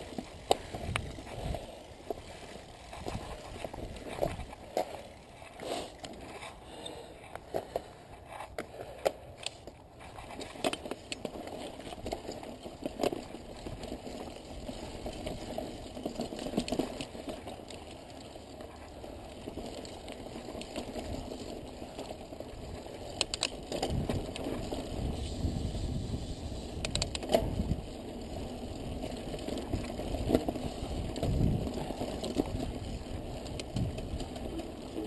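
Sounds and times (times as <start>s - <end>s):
bike clicks and rattles: 0.0s - 35.0s
bike tyres crunching on rock: 0.0s - 35.0s.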